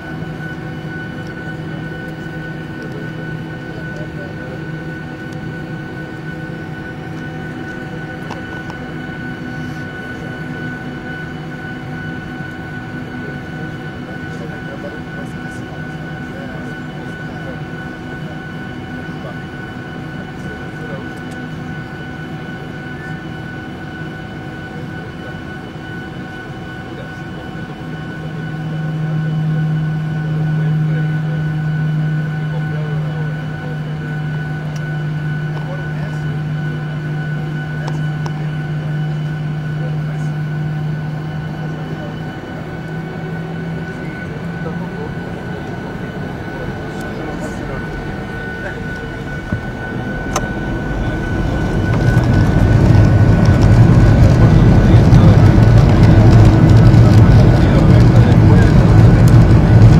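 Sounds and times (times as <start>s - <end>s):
jet engine hum with high whine: 0.0s - 59.9s.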